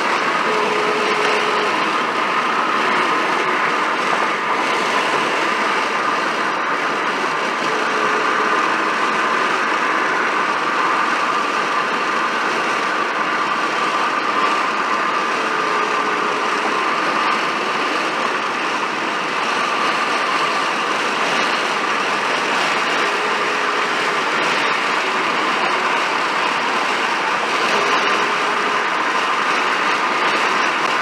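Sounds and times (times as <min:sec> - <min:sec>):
vehicle road noise: 0:00.0 - 0:31.0.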